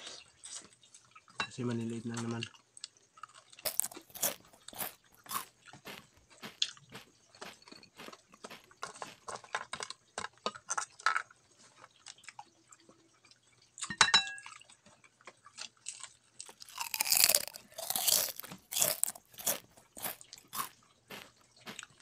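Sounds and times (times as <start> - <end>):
chewing and crunching shrimp: 2.5 - 22.0.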